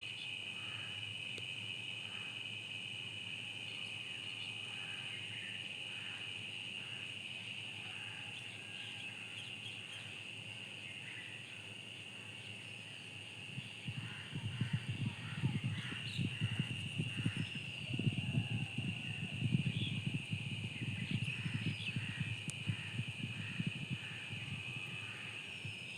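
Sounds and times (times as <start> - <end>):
shrill insect chorus: 0.0 - 25.9.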